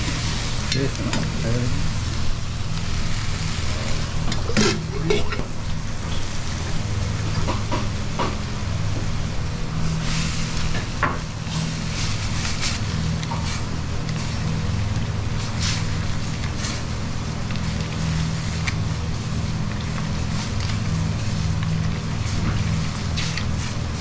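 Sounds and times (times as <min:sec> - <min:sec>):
broth sizzling in a wok: 0:00.0 - 0:24.0
steady low hum: 0:00.0 - 0:24.0.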